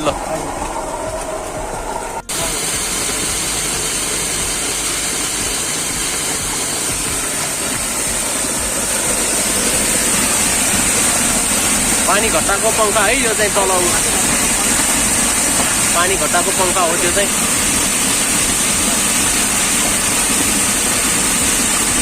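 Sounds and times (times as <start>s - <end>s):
water rushing onto mill wheel: 0.0s - 22.0s.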